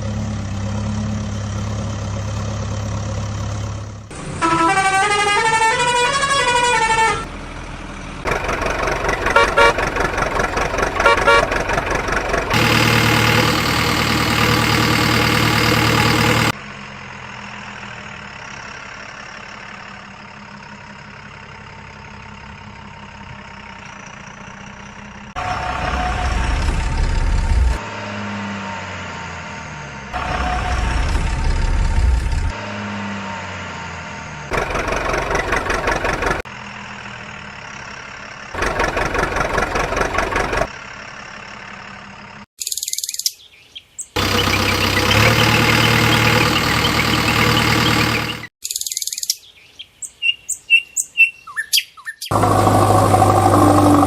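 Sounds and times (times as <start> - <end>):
engine idling and revving: 0.0 - 42.6, 44.2 - 48.6, 52.3 - 54.0.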